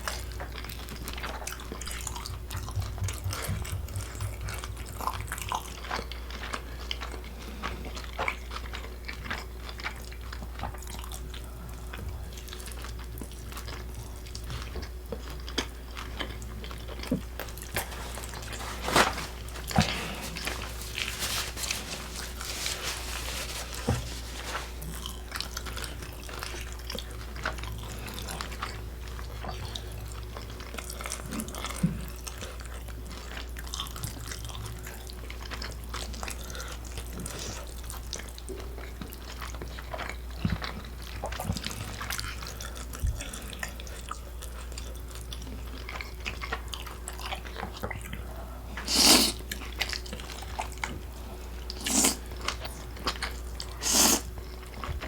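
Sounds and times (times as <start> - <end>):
biting and chewing food: 0.0 - 55.0
steady low hum: 0.0 - 55.0.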